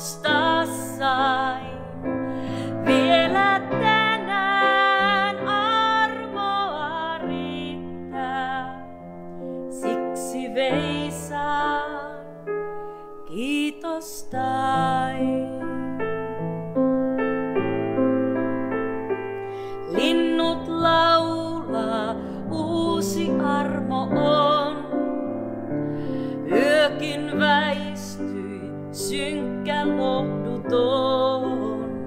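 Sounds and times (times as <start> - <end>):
woman singing: 0.0 - 16.3, 19.7 - 25.4, 26.3 - 32.0
grand piano playing: 0.0 - 32.0.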